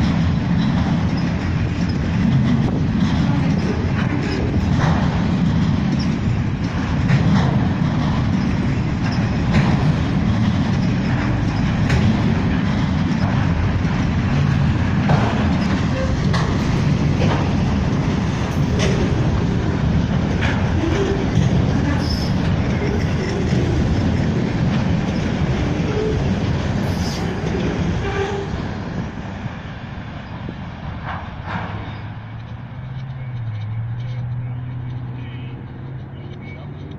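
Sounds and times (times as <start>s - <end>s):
steel wheels rumbling on rail: 0.0s - 36.9s
wheels clacking over rail joints: 0.0s - 36.9s.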